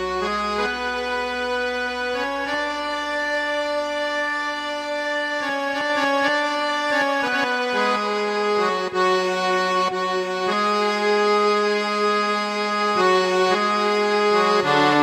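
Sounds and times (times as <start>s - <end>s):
accordion-like reed instrument: 0.0s - 15.0s.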